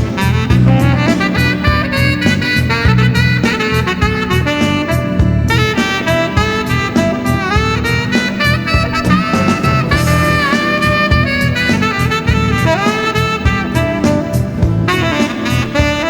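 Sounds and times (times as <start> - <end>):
backing track drum beat and bass: 0.0 - 16.0
tenor saxophone slow melody: 0.0 - 16.0.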